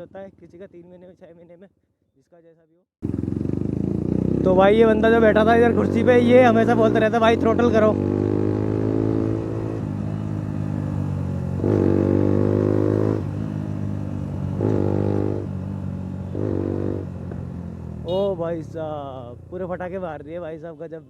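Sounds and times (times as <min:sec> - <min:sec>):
motorcycle engine idling and revving: 0:03.0 - 0:20.9.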